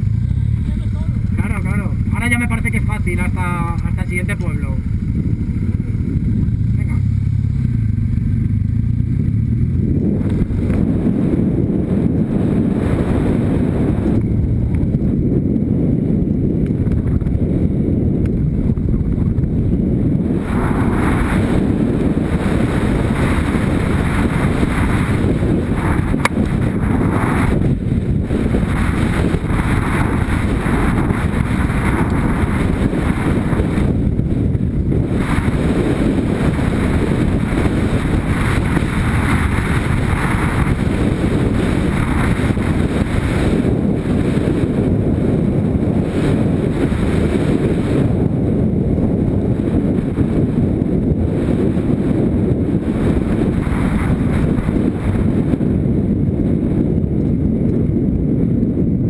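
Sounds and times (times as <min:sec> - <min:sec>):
motorcycle engine running: 0:00.0 - 0:59.0
wind buffeting microphone: 0:00.0 - 0:59.0.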